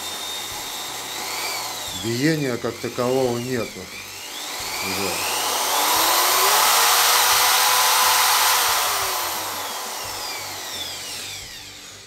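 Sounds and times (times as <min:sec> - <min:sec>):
electric drill motor whine: 0:00.0 - 0:12.0.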